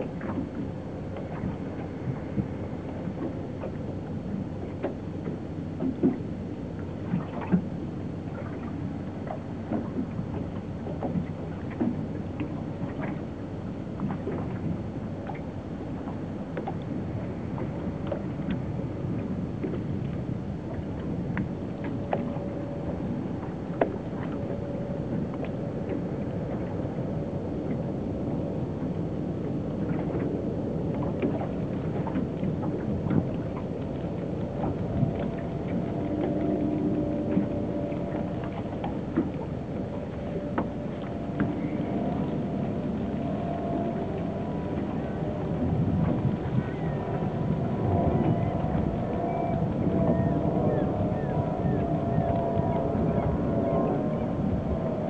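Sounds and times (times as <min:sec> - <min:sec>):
distant motor drone: 0:00.0 - 0:55.0
open water: 0:00.0 - 0:55.0
wind rumbling on microphone: 0:00.0 - 0:55.0.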